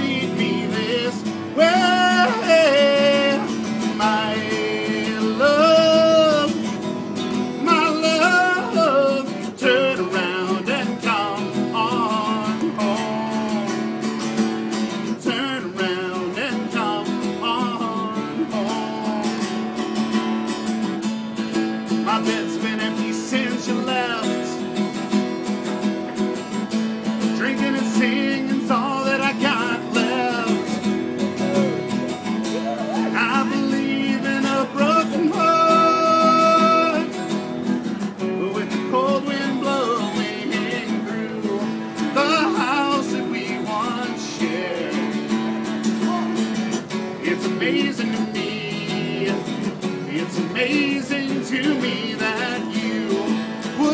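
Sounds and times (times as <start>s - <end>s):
man singing: 0.0s - 14.2s, 14.8s - 20.1s, 21.8s - 24.7s, 27.2s - 37.4s, 38.0s - 53.9s
acoustic guitar playing: 0.0s - 53.9s.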